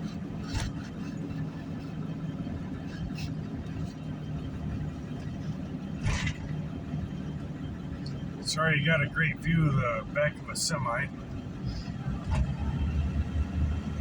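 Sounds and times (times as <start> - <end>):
road noise inside a car: 0.0 - 14.0
vehicle engine drone: 0.0 - 14.0.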